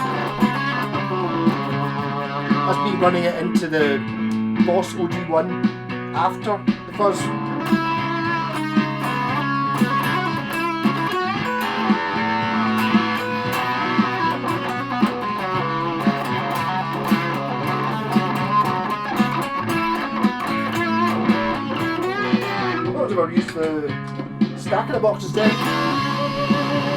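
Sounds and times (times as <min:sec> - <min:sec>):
fuzz electric guitar playing: 0:00.0 - 0:26.9.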